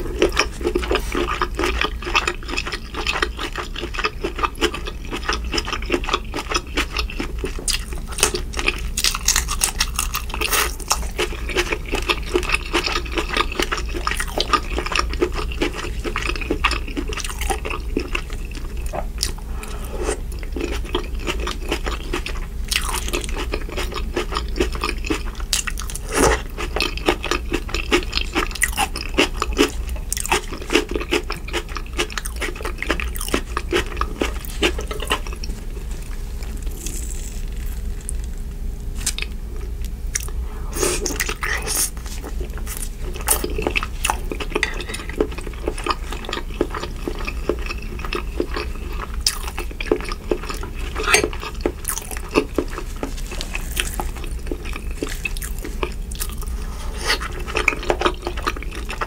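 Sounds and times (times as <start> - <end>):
close chewing of shrimp: 0.0 - 38.4, 39.0 - 59.0.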